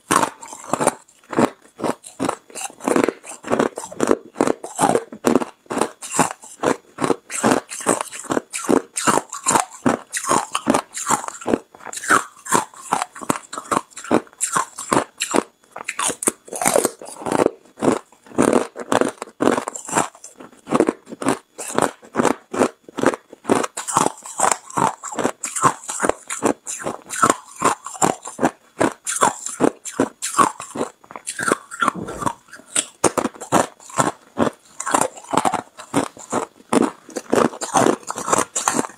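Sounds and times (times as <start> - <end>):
person crunching ice: 0.0 - 38.9.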